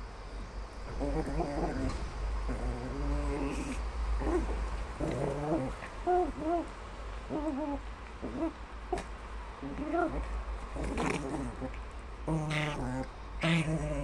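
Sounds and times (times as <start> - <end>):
small dog growly grumbles: 0.9 - 6.7, 7.3 - 14.0.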